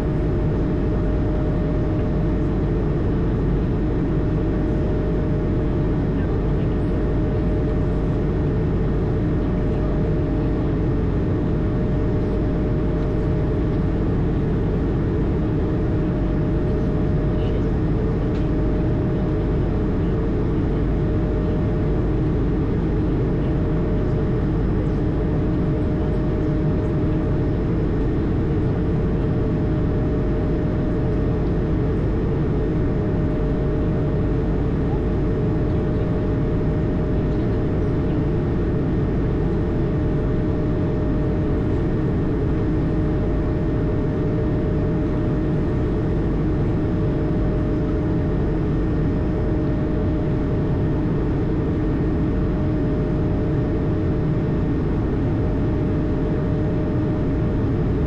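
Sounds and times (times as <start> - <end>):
aircraft cockpit engine drone: 0.0 - 58.0.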